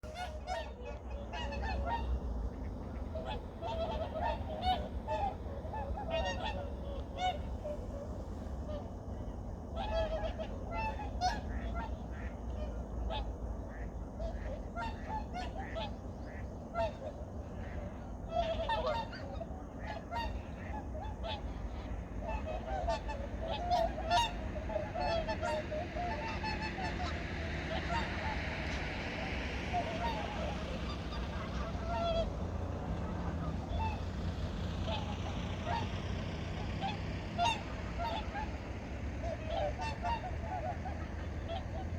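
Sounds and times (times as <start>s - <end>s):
geese honking: 0.0s - 41.9s.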